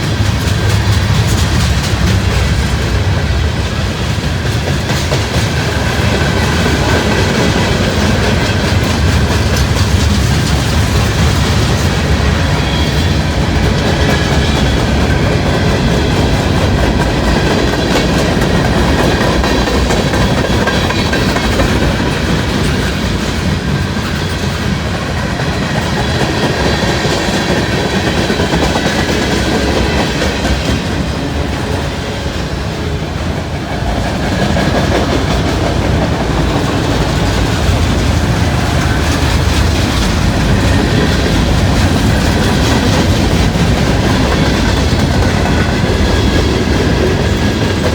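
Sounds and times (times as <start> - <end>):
freight train wheels clacking: 0.0 - 47.9.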